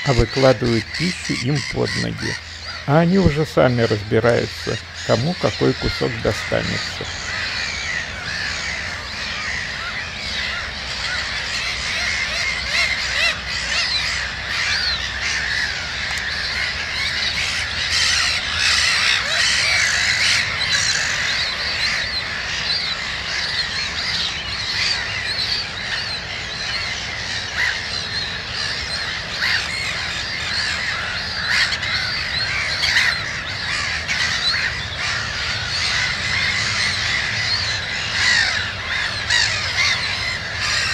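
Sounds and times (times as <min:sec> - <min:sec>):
gull colony calling: 0:00.0 - 0:40.9.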